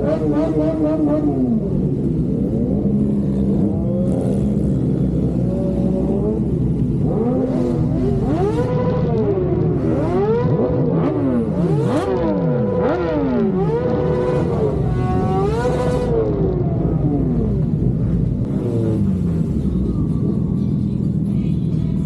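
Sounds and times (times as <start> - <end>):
engines idling: 0.0 - 22.0
motorcycle engines revving: 0.0 - 22.0.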